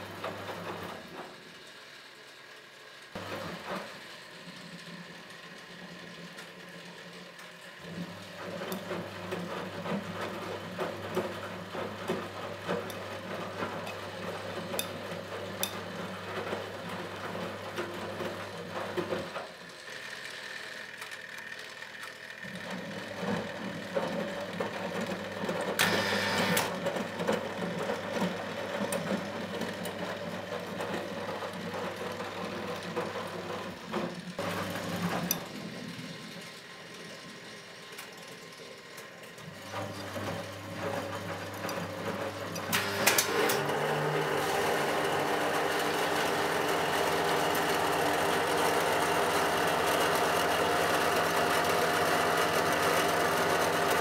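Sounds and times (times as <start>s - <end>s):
washing machine motor humming: 7.8s - 19.8s, 21.8s - 54.0s.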